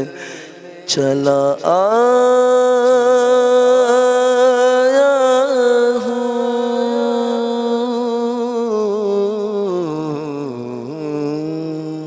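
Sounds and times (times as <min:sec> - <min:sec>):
man singing a long note: 0:00.0 - 0:12.0.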